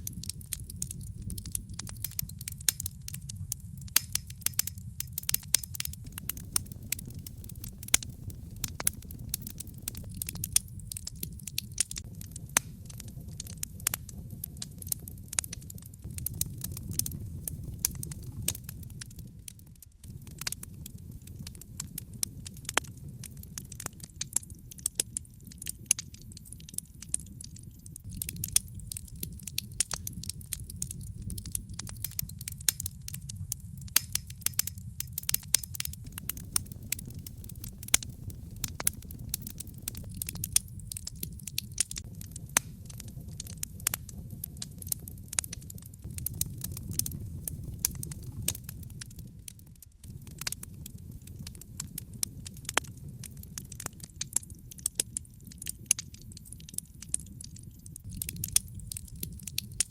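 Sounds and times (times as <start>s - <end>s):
burning logs crackling and popping: 0.0s - 59.9s
low rumble of flames: 0.0s - 59.9s.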